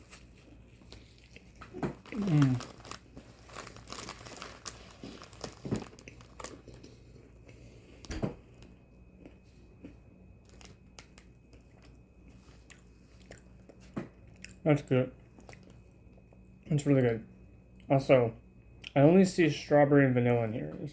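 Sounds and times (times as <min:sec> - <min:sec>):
chewing crunchy cookies: 0:00.0 - 0:17.0.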